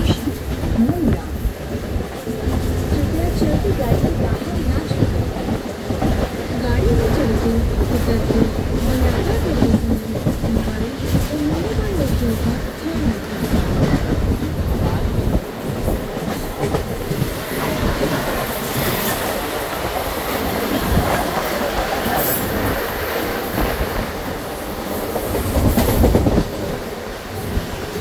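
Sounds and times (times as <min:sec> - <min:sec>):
train wheels clattering on track: 0:00.0 - 0:28.0.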